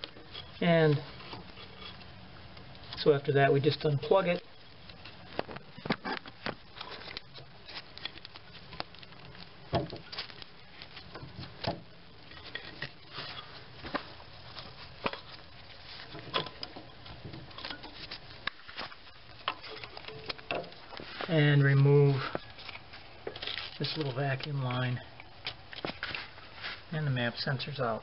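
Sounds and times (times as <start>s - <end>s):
gloved hands handling engine parts: 4.2s - 26.9s.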